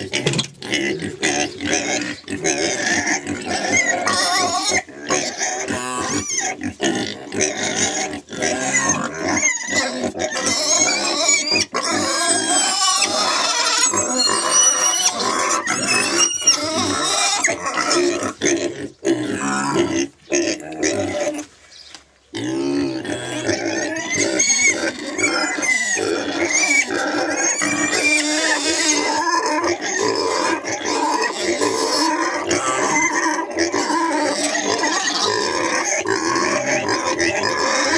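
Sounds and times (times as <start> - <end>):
pigs squealing: 0.0 - 21.5, 22.3 - 37.9.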